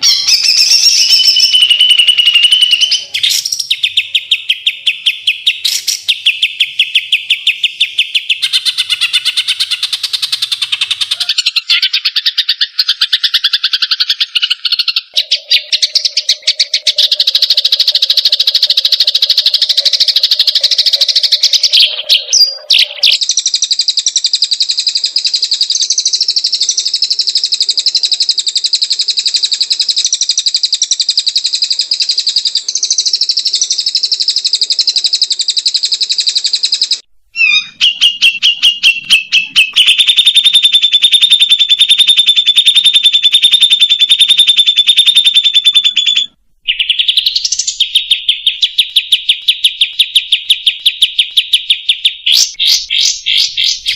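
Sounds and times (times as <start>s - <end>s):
bird song with fast high notes: 0.0s - 53.9s.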